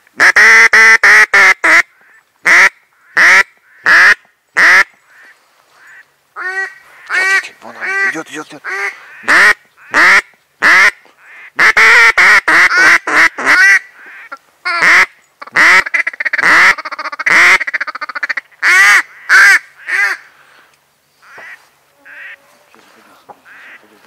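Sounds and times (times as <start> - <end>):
duck quacking: 0.2 - 20.3, 21.2 - 22.5, 23.4 - 24.0.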